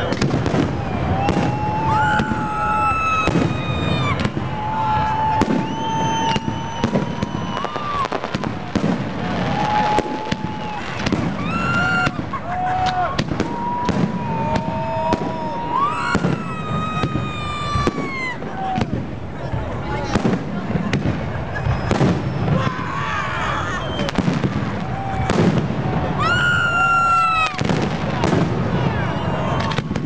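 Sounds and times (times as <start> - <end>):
whistling rockets: 0.0 - 19.1, 20.0 - 30.0
fireworks bangs and crackles: 0.0 - 30.0.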